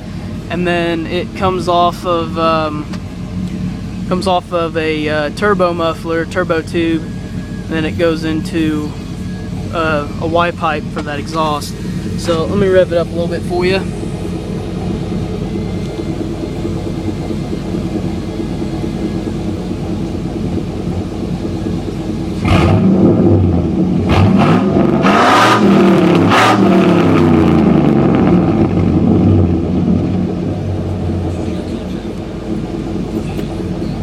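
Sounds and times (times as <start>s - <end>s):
pickup truck engine idling and revving: 0.0s - 34.0s.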